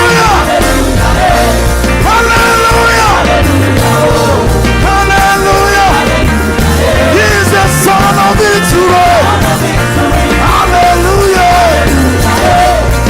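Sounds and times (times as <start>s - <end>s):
live band playing praise song: 0.0s - 13.0s
sliding melody line: 0.0s - 13.0s
steady bass line: 0.0s - 13.0s.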